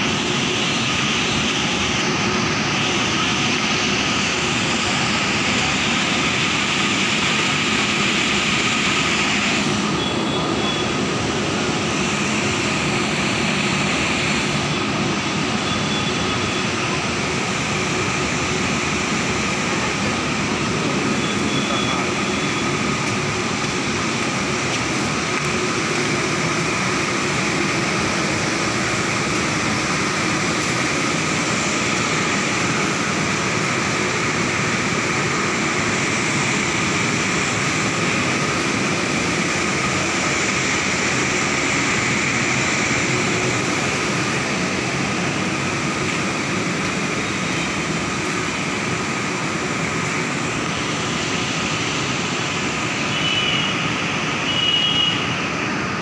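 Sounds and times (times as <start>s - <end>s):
locomotive cooling blowers whirring: 0.0s - 56.0s.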